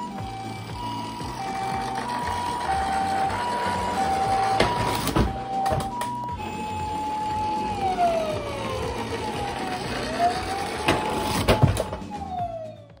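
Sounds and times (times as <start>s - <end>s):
ambulance siren: 0.0s - 13.0s.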